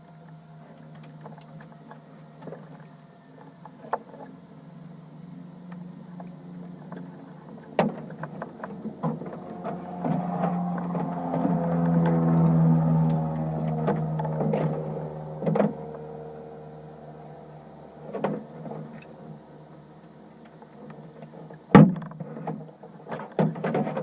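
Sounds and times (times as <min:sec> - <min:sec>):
aircraft engine hum: 0:00.0 - 0:23.2.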